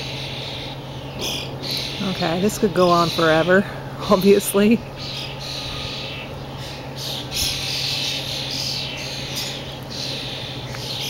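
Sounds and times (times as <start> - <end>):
birds squawking harshly: 0.0 - 11.0.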